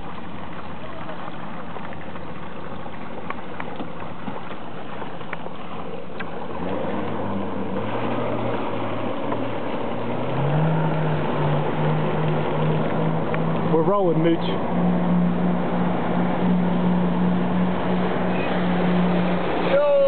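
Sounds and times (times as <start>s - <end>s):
motorboat engine droning: 0.0s - 20.0s
water rushing along a boat: 0.0s - 20.0s
wind: 0.0s - 20.0s.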